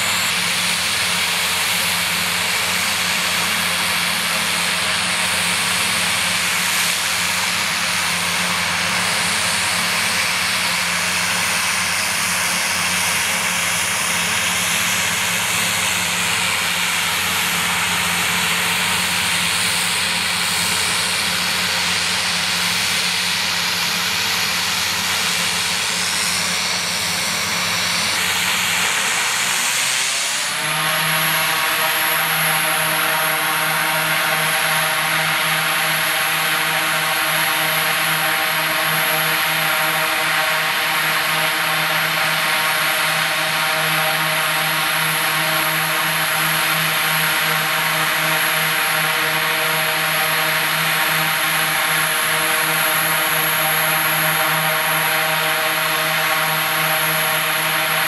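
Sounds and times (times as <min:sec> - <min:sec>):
low propeller drone: 0:00.0 - 0:58.0
turboprop engines running: 0:00.0 - 0:58.0.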